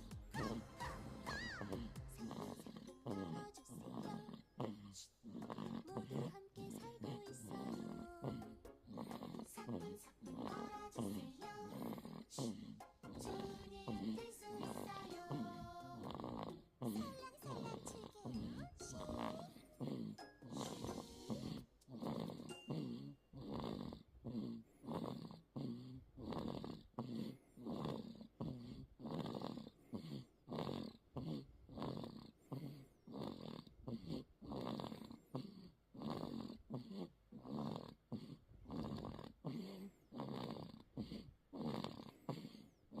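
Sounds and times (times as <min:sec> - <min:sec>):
baby snoring: 0:00.0 - 0:43.0.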